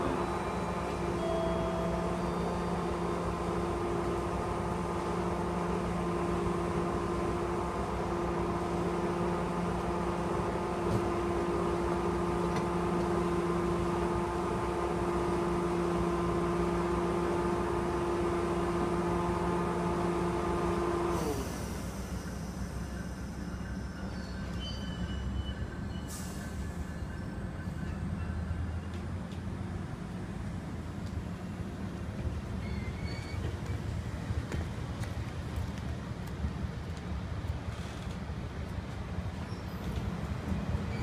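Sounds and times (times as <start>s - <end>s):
train mechanical hum: 0.0s - 41.0s.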